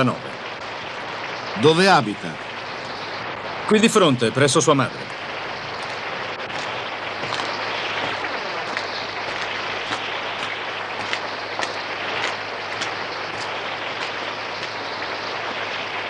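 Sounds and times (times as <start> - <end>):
heavy rain on gravel: 0.0 - 16.0.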